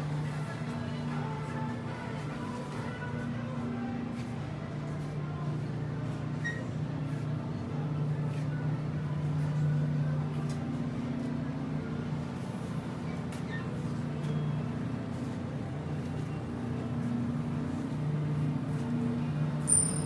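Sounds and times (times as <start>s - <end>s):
refrigerated display cases humming: 0.0s - 20.0s.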